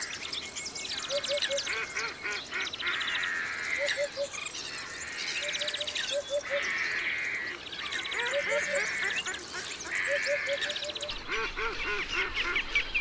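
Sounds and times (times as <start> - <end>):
birds calling and singing: 0.0 - 13.0.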